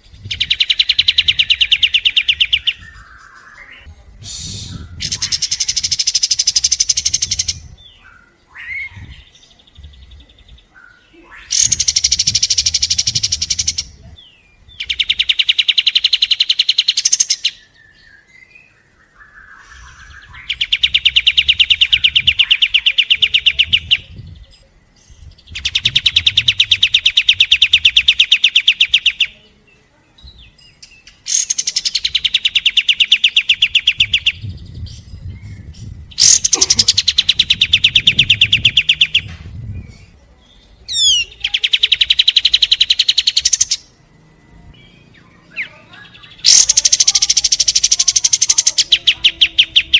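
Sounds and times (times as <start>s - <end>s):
songbird rapid repeated notes: 0.0s - 7.9s, 10.4s - 14.0s, 14.6s - 17.7s, 19.6s - 29.4s, 30.8s - 34.8s, 35.6s - 39.3s, 40.8s - 49.9s
bird chirps: 0.0s - 49.9s.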